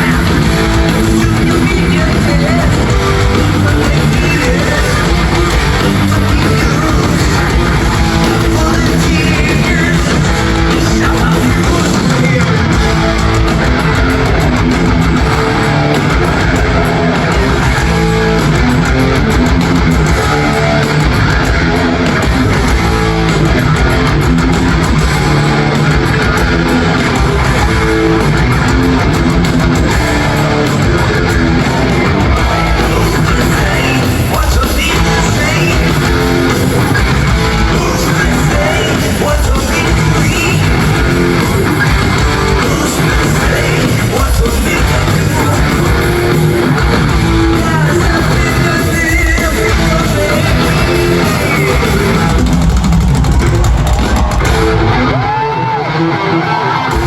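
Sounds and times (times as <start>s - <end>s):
bass guitar: 0.0s - 57.0s
distorted electric guitar riffing: 0.0s - 57.0s
heavy metal band playing: 0.0s - 57.0s.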